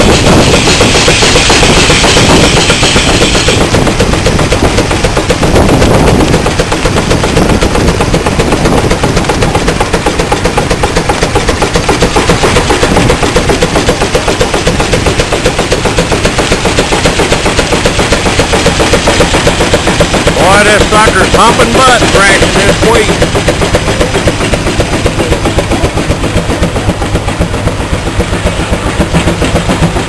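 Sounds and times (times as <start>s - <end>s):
steam engine exhaust beats: 0.0s - 30.0s
valve gear clatter: 0.0s - 30.0s.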